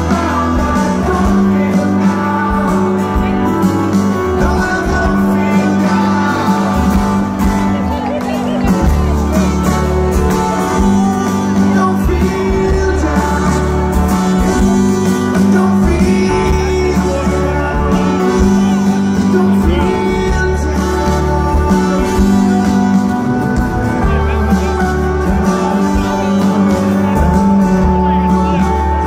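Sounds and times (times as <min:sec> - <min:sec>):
bass: 0:00.0 - 0:29.0
drums: 0:00.0 - 0:29.0
guitars: 0:00.0 - 0:29.0
person singing: 0:00.0 - 0:29.0.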